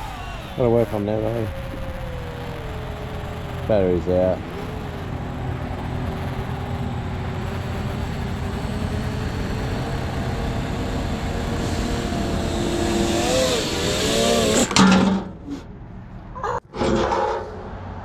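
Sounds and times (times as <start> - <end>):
steady low rumble: 0.0 - 14.6
vehicle engine: 0.0 - 15.1.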